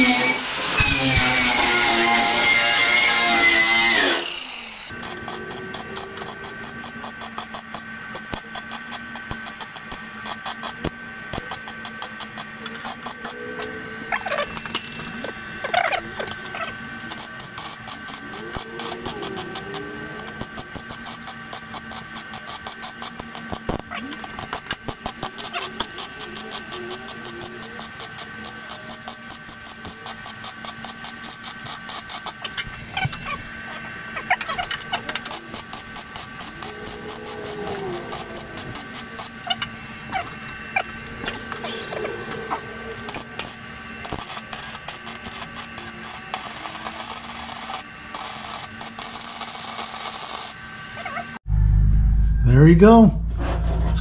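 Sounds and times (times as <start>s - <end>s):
welding arc crackling: 0.0s - 51.4s
steady electrical hum: 0.0s - 54.0s.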